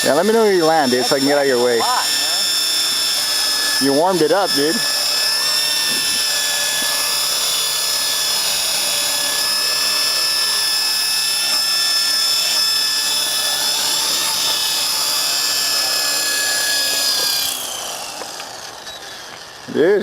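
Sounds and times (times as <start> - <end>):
rc helicopter motor whine: 0.0 - 20.0.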